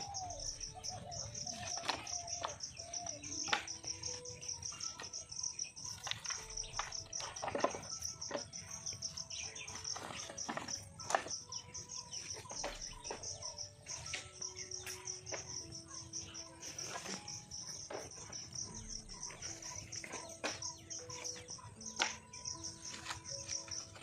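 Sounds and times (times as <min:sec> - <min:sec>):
bird chirps: 0:00.0 - 0:24.0
insects chirping: 0:00.0 - 0:24.0
soft background music: 0:00.0 - 0:24.0.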